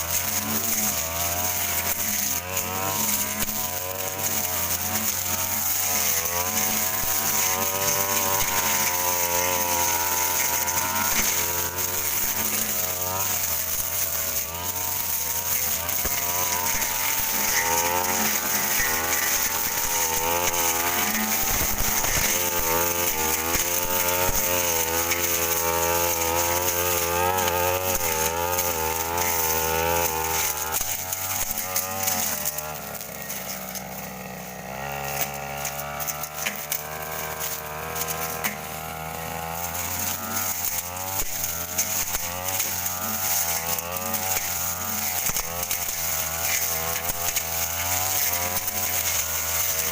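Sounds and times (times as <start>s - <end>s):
brush cutter engine running: 0.0s - 49.9s.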